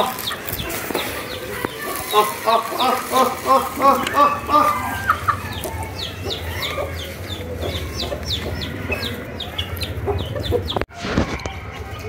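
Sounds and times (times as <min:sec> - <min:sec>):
high falling peeps: 0:00.0 - 0:10.8
chickens clucking: 0:00.0 - 0:12.0.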